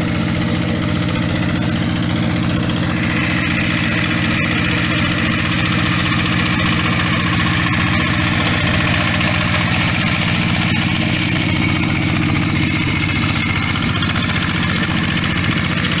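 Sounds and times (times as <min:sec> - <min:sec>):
diesel tractor engine chugging: 0:00.0 - 0:16.0.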